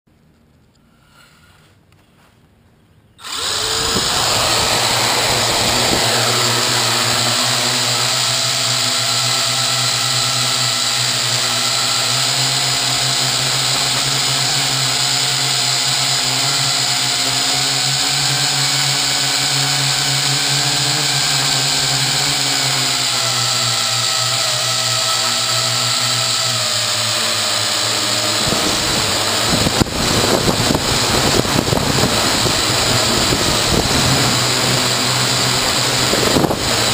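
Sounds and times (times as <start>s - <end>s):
quadcopter motors whining: 3.2s - 36.9s.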